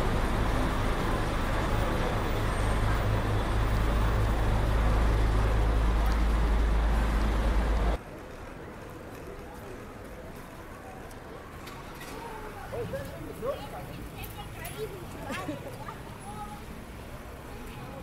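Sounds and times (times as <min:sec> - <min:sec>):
busy street traffic: 0:00.0 - 0:18.0.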